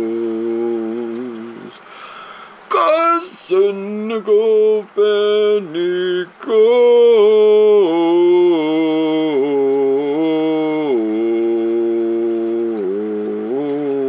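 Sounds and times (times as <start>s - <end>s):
man singing long held notes: 0.0s - 1.9s, 2.6s - 14.0s.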